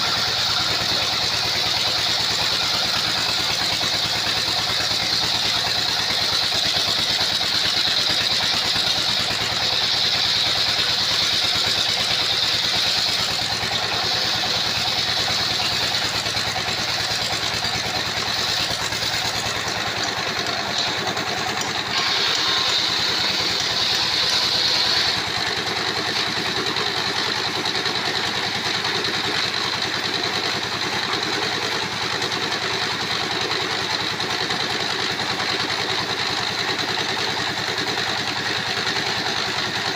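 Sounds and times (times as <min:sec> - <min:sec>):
saw blade whining through wood: 0:00.0 - 0:39.9
sawmill running: 0:00.0 - 0:39.9.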